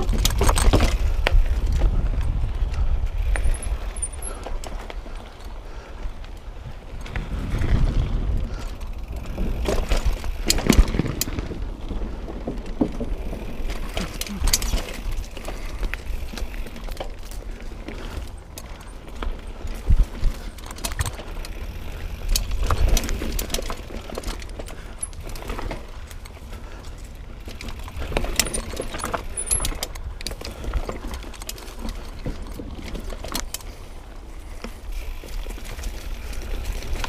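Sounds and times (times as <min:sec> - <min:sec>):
mountain bike rattling on rough trail: 0:00.0 - 0:37.0.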